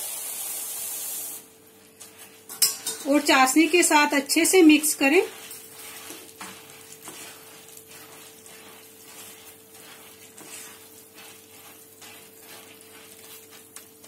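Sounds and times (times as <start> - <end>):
spoon scraping in syrup: 2.0 - 14.0.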